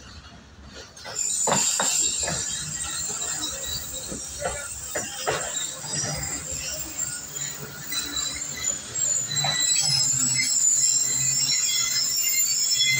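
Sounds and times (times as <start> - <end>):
steel wheels squealing on rails: 0.0 - 12.9
train rumbling on track: 0.0 - 12.9.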